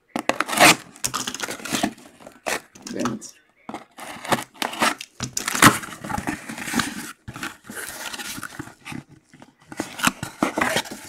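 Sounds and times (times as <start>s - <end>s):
cardboard scraping and rustling: 0.2s - 11.0s.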